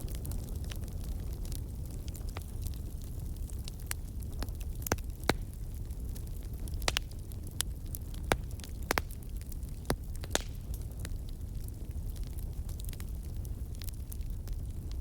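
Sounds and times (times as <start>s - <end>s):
campfire crackling: 0.0s - 15.0s
fire pops and snaps: 0.0s - 15.0s.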